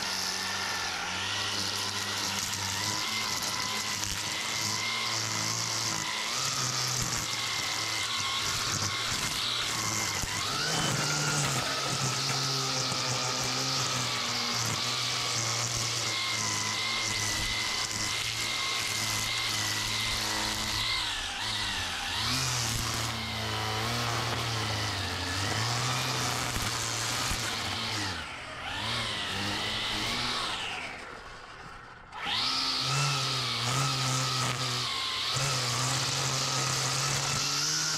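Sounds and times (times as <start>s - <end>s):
string trimmer motor whining: 0.0s - 37.9s
trimmer line cutting grass: 0.0s - 37.9s.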